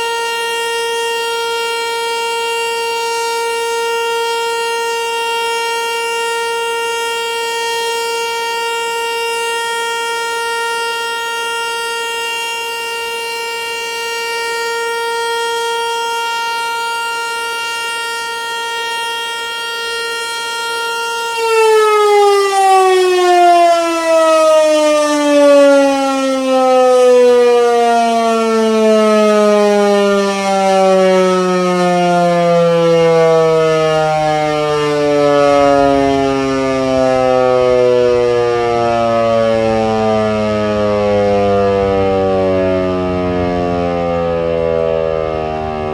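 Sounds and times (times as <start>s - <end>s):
tornado siren: 0.0s - 45.9s.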